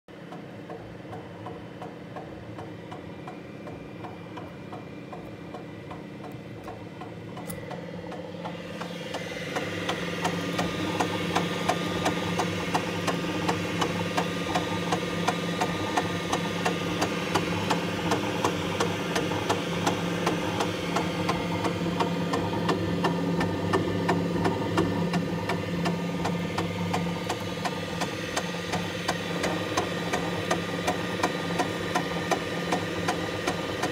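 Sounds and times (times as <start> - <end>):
engine running with knock: 6.6 - 33.9.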